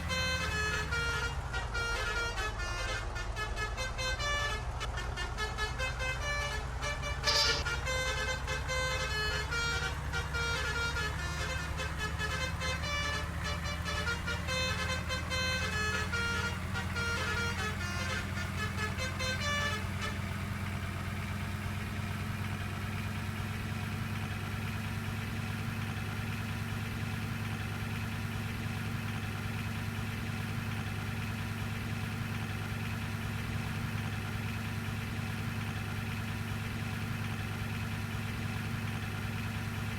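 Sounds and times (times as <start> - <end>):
bus engine idling: 0.0 - 39.9
multi-note bus horn tune: 0.0 - 39.9.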